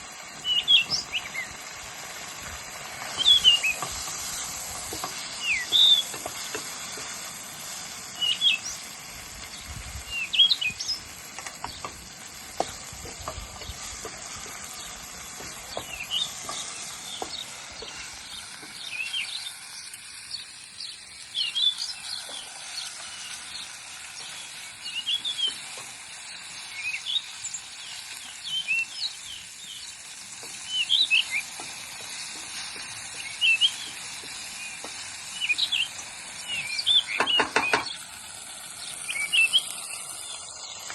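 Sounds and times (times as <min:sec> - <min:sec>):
faint hiss with light clicks: 0:00.0 - 0:40.9
wild birds chirping: 0:00.2 - 0:40.9.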